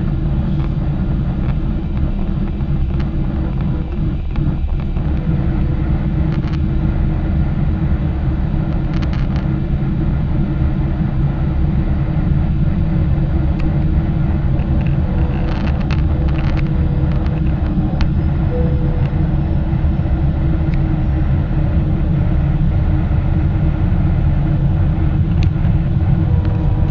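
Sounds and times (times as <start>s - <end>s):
aircraft engines rumbling: 0.0s - 26.9s
steady low hum: 0.0s - 26.9s.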